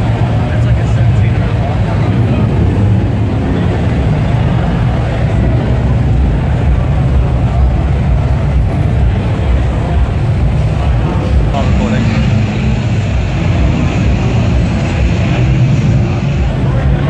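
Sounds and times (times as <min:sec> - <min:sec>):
car exhaust rumble: 0:00.0 - 0:17.0.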